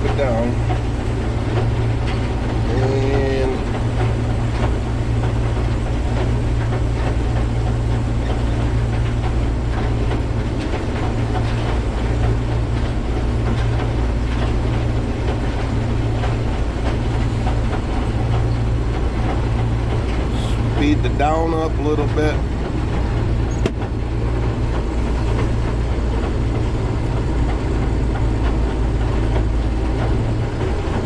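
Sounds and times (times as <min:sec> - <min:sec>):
combine harvester running: 0:00.0 - 0:31.0.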